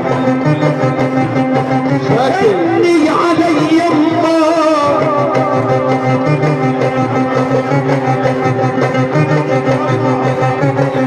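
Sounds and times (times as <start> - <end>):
pulsing low accompaniment: 0.0 - 11.0.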